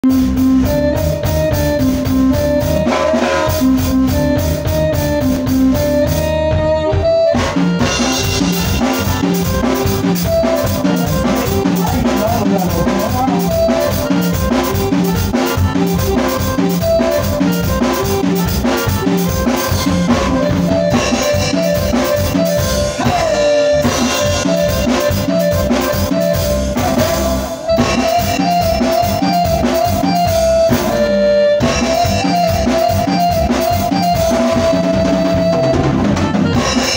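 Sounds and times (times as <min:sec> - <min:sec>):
drum kit beat: 0:00.0 - 0:36.9
electronic keyboard melody: 0:00.0 - 0:36.9.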